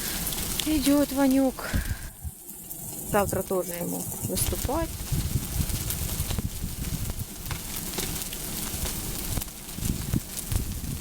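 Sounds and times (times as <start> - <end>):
bonfire crackling and popping: 0.0 - 11.0
rush of flame: 0.0 - 11.0.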